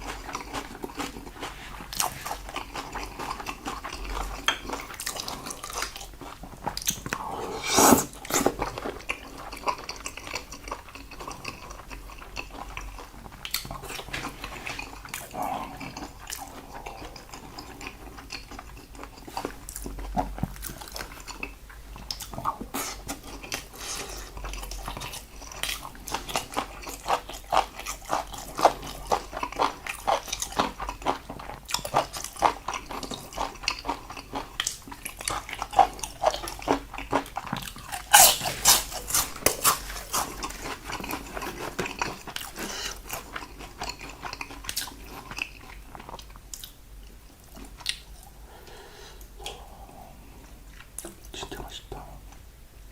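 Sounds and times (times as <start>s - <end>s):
person chewing and biting food: 0.0s - 51.2s.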